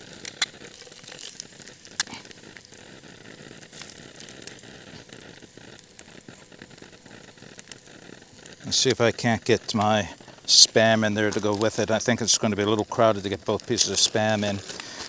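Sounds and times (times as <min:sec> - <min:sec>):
crackles and pops: 0:00.0 - 0:15.0
eggs sizzling in a pan: 0:00.0 - 0:15.0
gas stove sputtering: 0:00.0 - 0:15.0.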